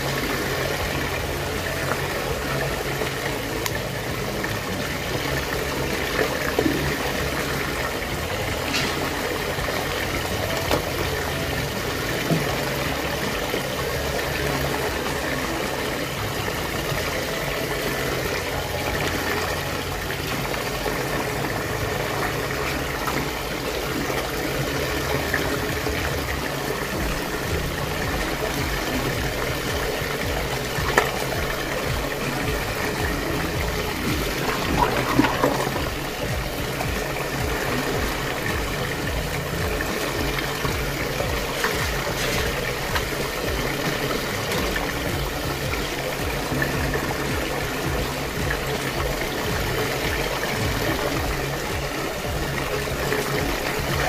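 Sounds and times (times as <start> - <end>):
low steady hum: 0.0 - 54.0
water swirling down drain: 0.0 - 54.0.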